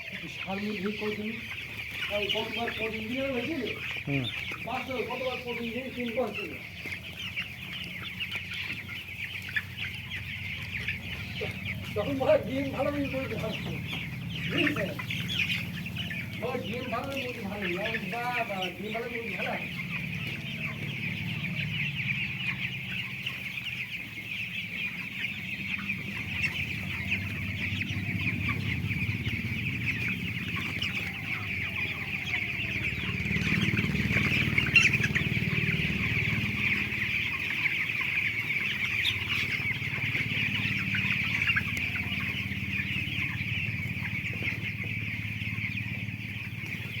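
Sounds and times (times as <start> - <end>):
chickens cheeping and clucking: 0.0 - 47.0.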